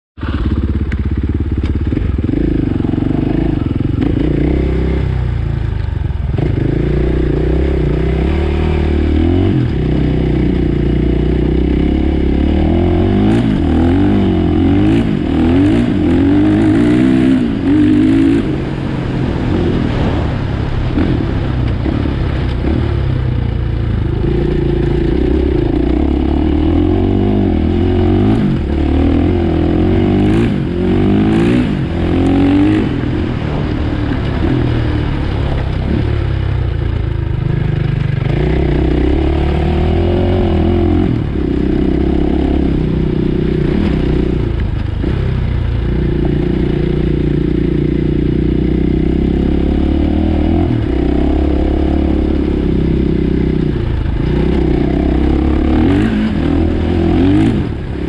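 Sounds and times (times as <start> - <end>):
dirt bike engine revving: 0.2 - 58.0.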